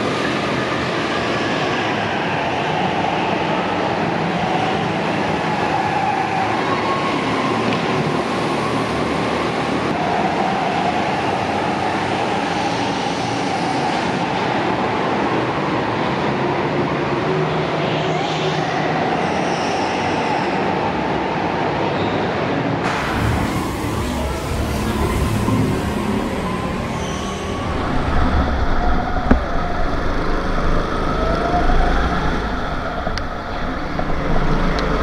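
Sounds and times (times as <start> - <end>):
go-kart engines droning: 0.0 - 35.0.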